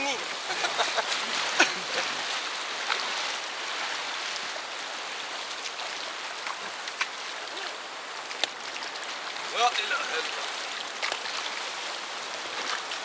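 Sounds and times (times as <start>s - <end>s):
paddles splashing: 0.0s - 13.0s
river water rushing: 0.0s - 13.0s.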